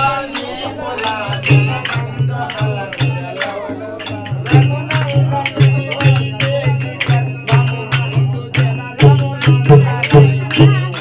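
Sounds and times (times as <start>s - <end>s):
hand cymbals clashing: 0.0s - 11.0s
voices singing: 0.0s - 11.0s
barrel drum beating: 0.6s - 11.0s.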